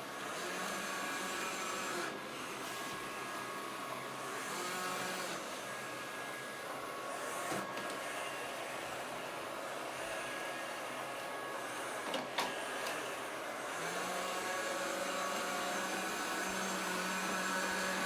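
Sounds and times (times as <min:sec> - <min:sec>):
robot vacuum cleaner whirring: 0:00.0 - 0:18.0.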